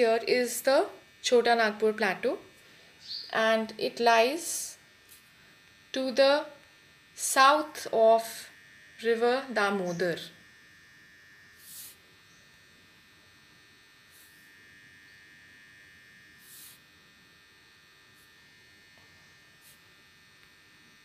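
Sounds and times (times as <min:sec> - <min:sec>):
faint high electrical whine: 0:00.0 - 0:21.0.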